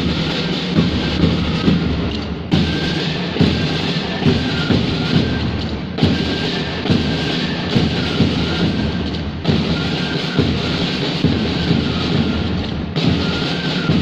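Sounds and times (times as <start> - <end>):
drum clatter: 0.0 - 14.0
marching band playing: 0.0 - 14.0.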